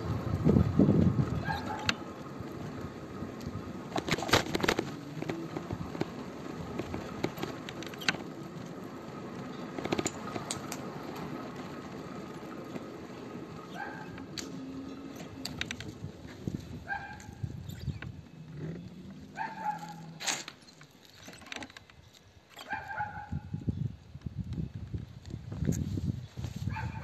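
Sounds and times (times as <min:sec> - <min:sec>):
wind buffeting microphone: 0:00.0 - 0:19.8, 0:22.8 - 0:27.0.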